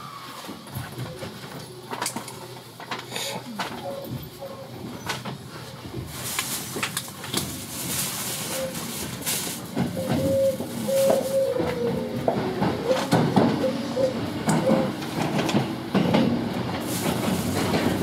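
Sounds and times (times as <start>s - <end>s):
electric train hum: 0.0s - 18.0s
train clicks and rattles: 0.4s - 18.0s.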